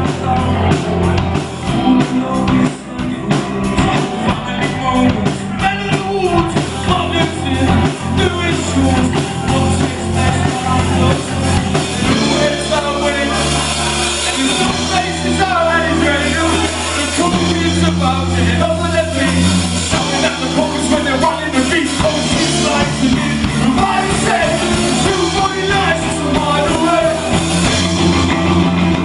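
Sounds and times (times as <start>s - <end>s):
drums steady beat: 0.0s - 29.0s
live rock band playing: 0.0s - 29.0s
person singing: 0.0s - 29.0s.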